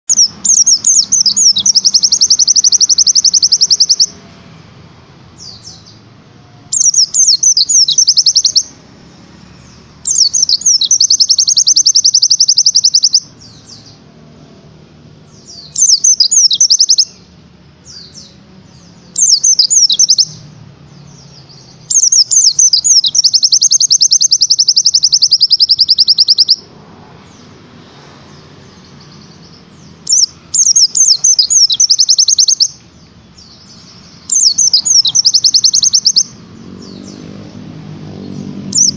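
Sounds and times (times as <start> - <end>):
white-eye bird trilling song: 0.1 - 4.2, 5.4 - 6.1, 6.7 - 14.1, 15.2 - 27.5, 28.3 - 37.4, 38.2 - 38.9.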